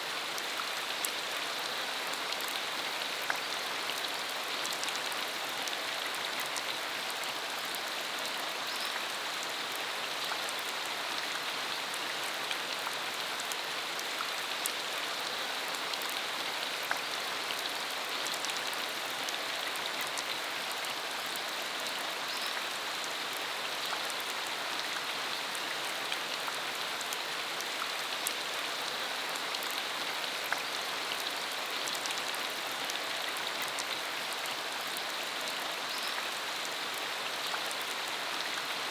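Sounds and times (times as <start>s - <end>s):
rain falling on dirt road: 0.0s - 38.9s.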